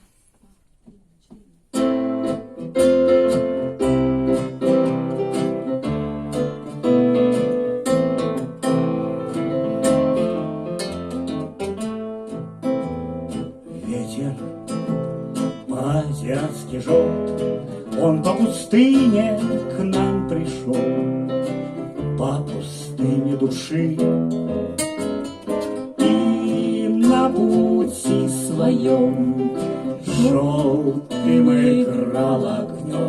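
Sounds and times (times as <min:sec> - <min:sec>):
strummed guitar chords: 0:01.8 - 0:33.0.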